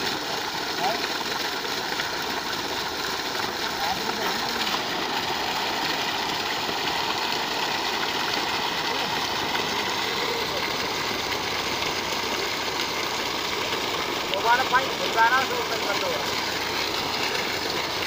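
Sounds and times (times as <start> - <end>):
water gushing onto ground: 0.0 - 18.0.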